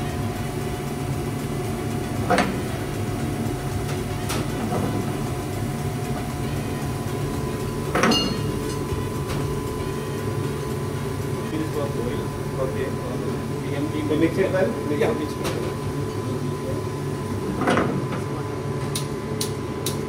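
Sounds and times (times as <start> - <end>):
kitchen ventilation hum: 0.0 - 20.0.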